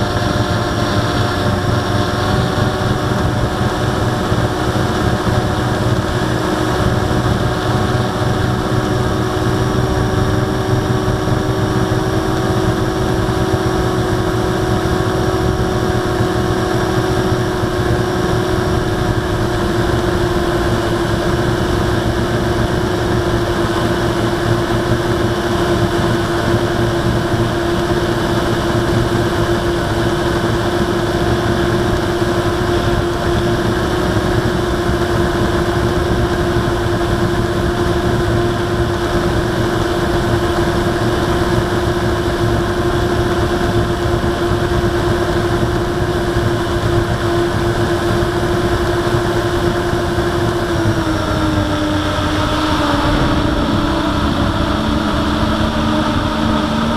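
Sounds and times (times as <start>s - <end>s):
drone motors humming: 0.0s - 56.9s.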